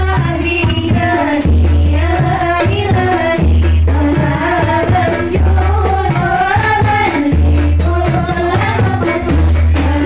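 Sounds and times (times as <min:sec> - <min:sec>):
frame drums beating: 0:00.0 - 0:10.0
women singing over loudspeakers: 0:00.0 - 0:10.0.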